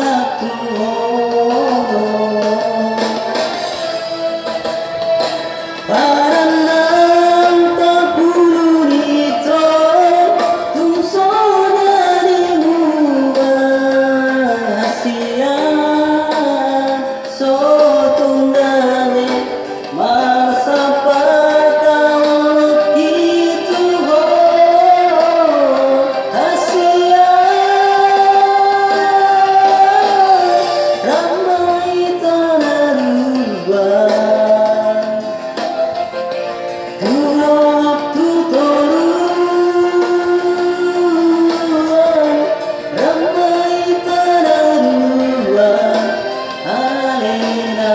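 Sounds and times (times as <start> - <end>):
instrumental accompaniment: 0.0 - 47.9
person singing: 0.0 - 47.9.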